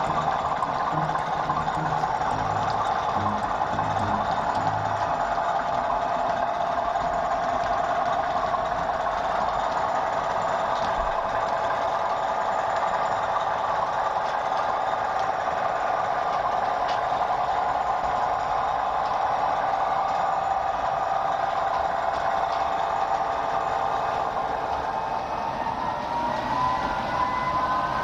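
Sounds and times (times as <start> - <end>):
rail joint clicks: 0.0 - 27.4
model train wagons rumbling: 0.0 - 28.0.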